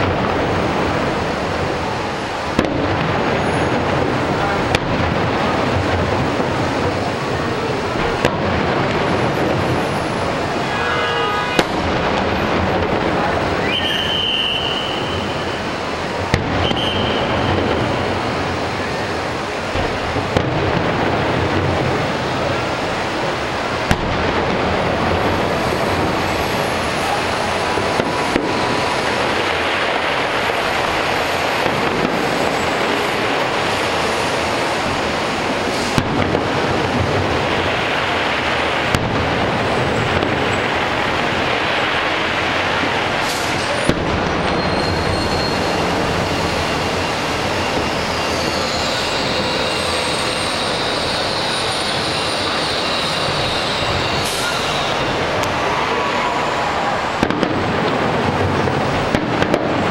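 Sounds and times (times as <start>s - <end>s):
distant fireworks booms and crackling: 0.0s - 59.9s
sharp fireworks bangs: 0.0s - 59.9s.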